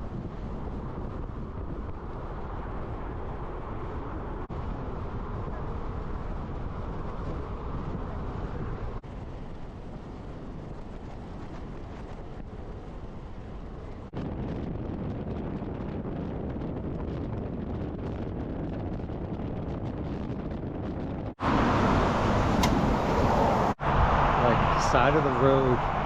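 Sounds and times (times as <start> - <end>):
wind and road noise from truck: 0.0 - 26.0.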